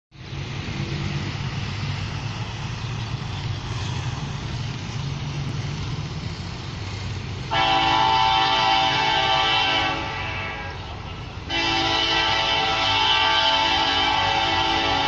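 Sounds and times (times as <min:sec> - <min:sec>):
distant locomotive engine drone: 0:00.1 - 0:15.0.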